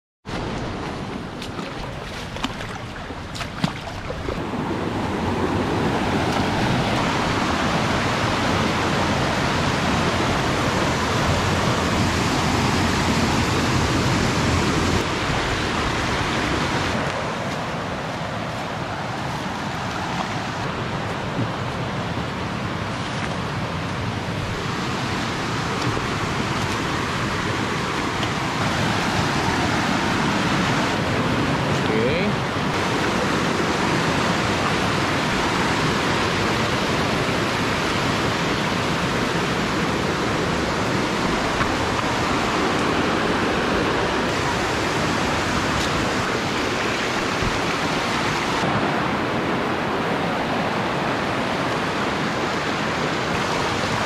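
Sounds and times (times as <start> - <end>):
water rushing over rocks: 0.2 - 54.0.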